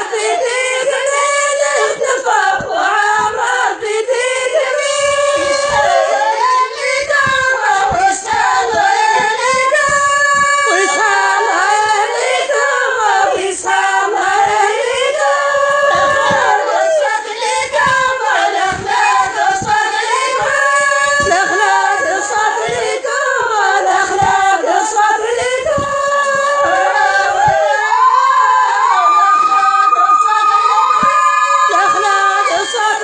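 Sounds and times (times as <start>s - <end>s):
voices singing long notes: 0.0s - 33.0s.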